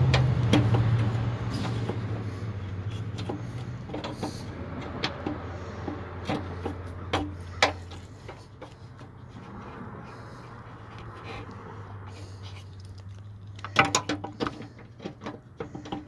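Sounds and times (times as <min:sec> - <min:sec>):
hand tools clicking and knocking: 0:00.0 - 0:11.2, 0:12.2 - 0:16.0
low engine-like hum: 0:00.0 - 0:16.0.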